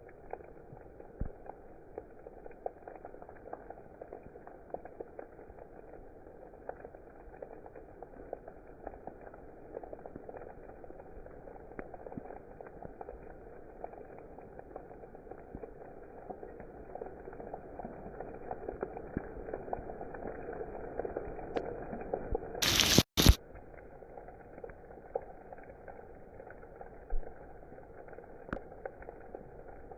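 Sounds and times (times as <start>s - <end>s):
steady rain patter: 0.0s - 29.9s.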